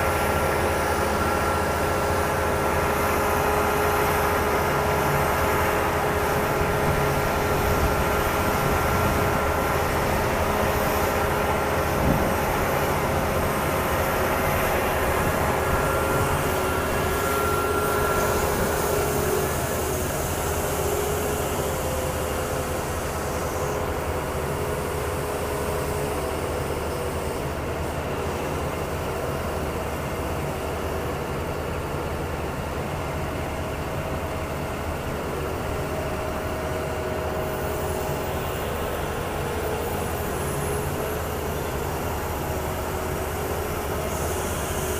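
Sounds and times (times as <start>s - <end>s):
faint steady whines: 0.0s - 44.9s
rumble of heavy machinery: 0.0s - 44.9s.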